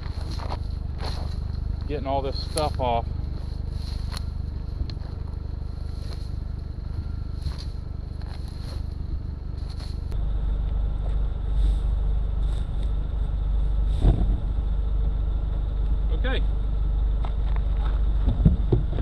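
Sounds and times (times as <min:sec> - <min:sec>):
grass rustling and scraping: 0:00.0 - 0:18.7
vehicle engine idling: 0:00.0 - 0:19.0.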